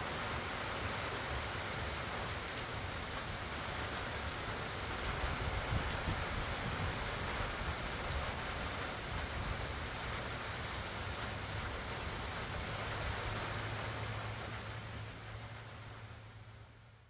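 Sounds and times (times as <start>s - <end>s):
steady rain falling on trees: 0.0s - 17.0s.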